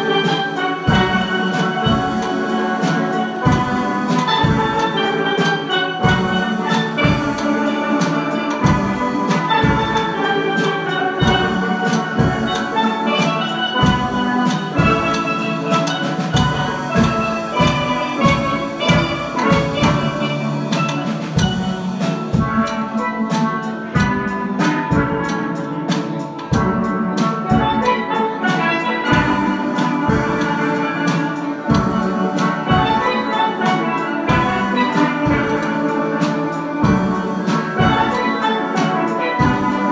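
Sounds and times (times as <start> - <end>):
steelpans ringing notes: 0.0 - 24.3, 27.5 - 39.9
steady drum beat: 0.0 - 39.9.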